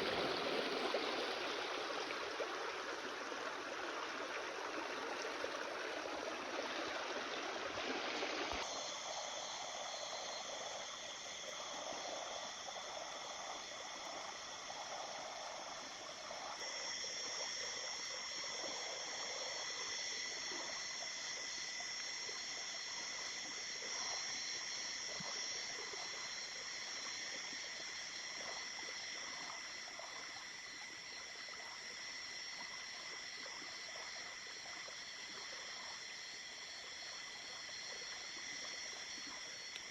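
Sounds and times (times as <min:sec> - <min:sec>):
small river flowing: 0:00.0 - 0:36.1.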